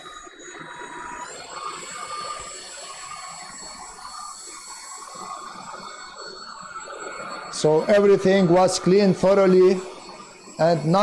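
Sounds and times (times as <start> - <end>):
stick vacuum motor whine: 0.0 - 11.0.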